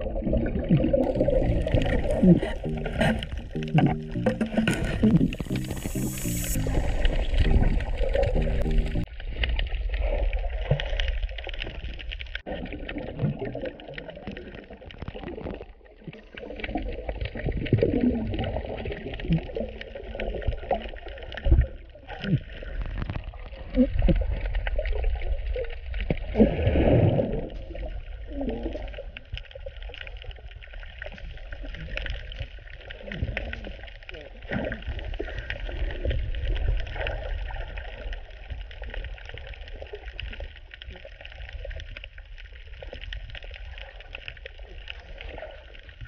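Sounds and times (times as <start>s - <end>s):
bubbling gurgles: 0.0s - 46.0s
low underwater rumble: 0.0s - 46.0s.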